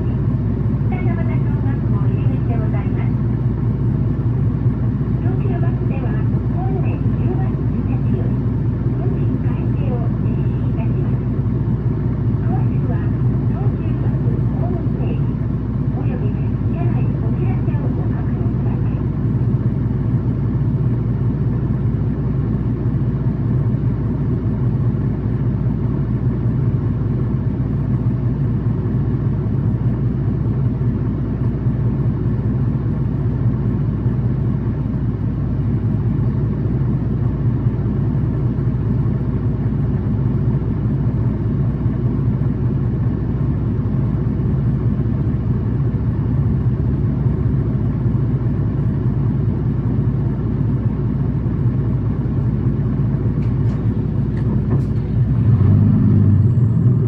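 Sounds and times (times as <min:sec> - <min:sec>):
bus engine humming: 0:00.0 - 0:57.0.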